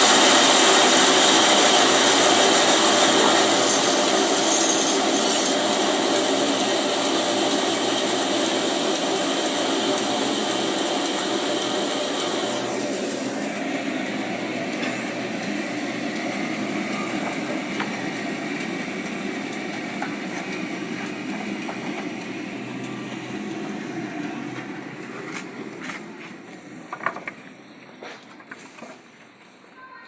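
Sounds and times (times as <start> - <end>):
band sawmill running: 0.0 - 27.3.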